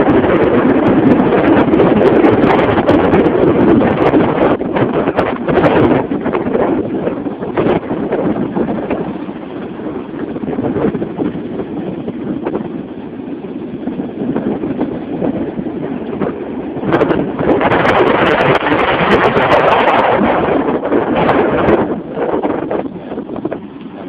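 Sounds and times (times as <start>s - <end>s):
constant rumble: 0.0s - 24.0s
microphone crackling: 0.0s - 24.0s
strong wind buffeting microphone: 0.0s - 24.0s.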